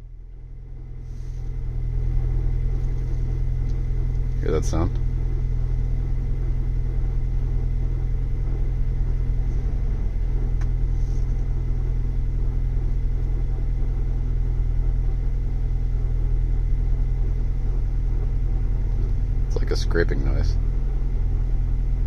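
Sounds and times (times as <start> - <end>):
engine idling: 0.0 - 22.0
transmission grinding: 1.7 - 22.0.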